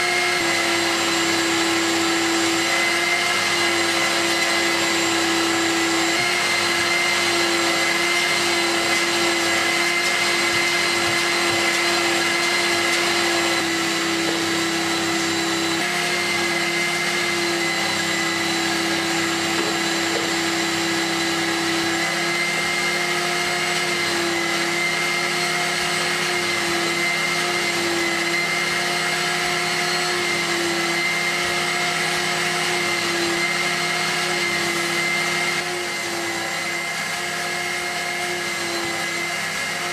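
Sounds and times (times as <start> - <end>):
cleaning machine motor whine: 0.0 - 39.9.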